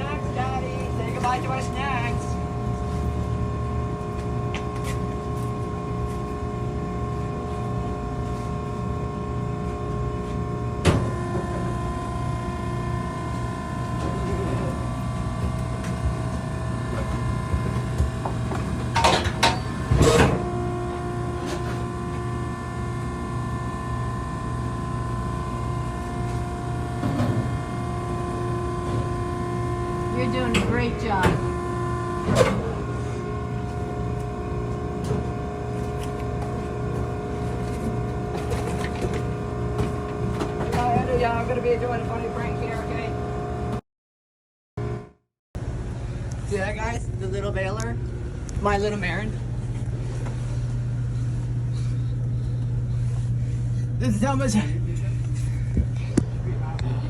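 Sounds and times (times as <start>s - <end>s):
hydraulic power unit whine: 0.0s - 43.8s, 44.8s - 57.0s
low motor hum: 0.0s - 43.8s, 44.8s - 57.0s.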